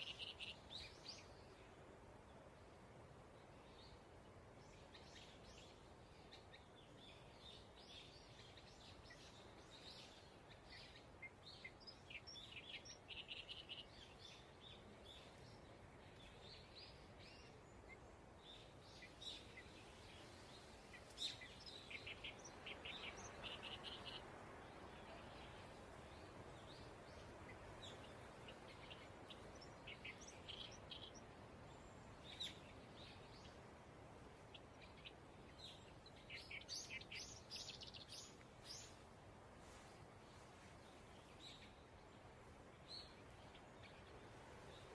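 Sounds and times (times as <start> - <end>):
faint birds chirping: 0.0 - 44.9
low background hiss: 0.0 - 44.9.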